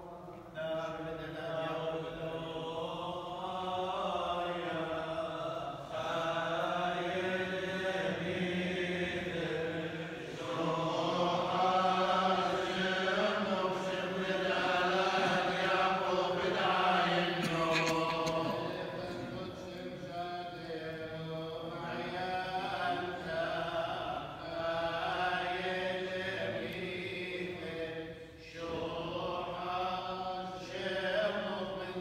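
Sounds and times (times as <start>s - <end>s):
men chanting liturgical prayers: 0.0s - 32.0s.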